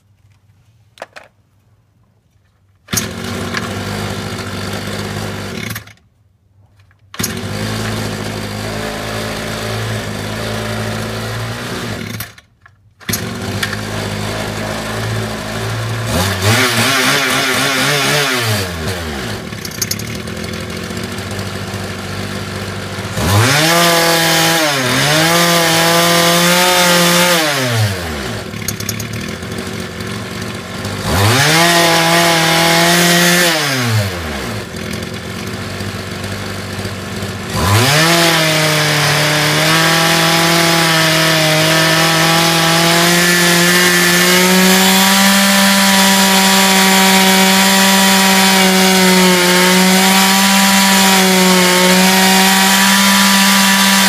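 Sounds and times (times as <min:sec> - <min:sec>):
small two-stroke engine revving: 0:02.9 - 0:05.9, 0:07.2 - 0:12.4, 0:13.1 - 0:54.0.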